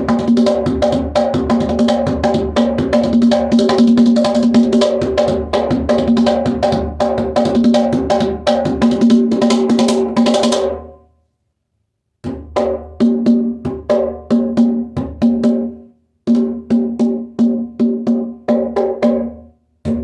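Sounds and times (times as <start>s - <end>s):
hand drum rhythm: 0.0s - 10.9s, 12.2s - 20.0s.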